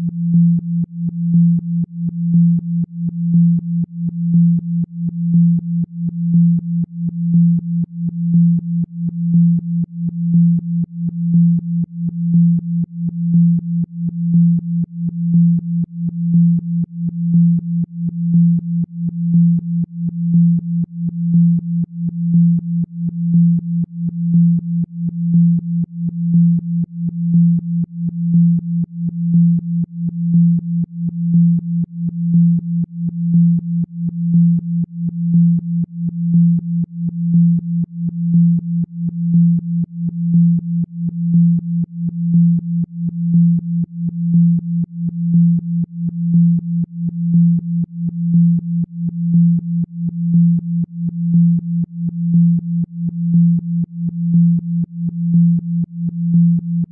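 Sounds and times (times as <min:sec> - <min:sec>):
pulsing synthesized low tone: 0:00.0 - 0:56.9.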